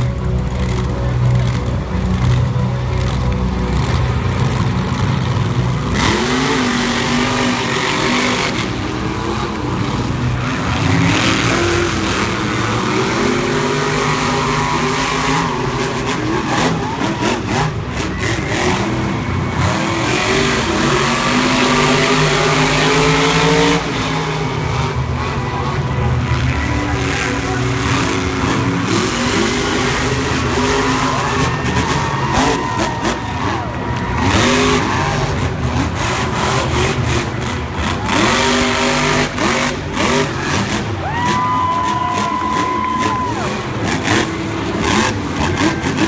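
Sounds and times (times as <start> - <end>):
monster truck engines revving: 0.0 - 46.0.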